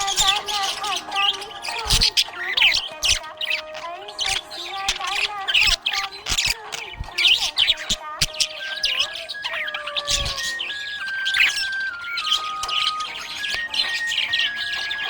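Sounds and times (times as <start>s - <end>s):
budgerigars chirping and squawking: 0.0s - 15.0s.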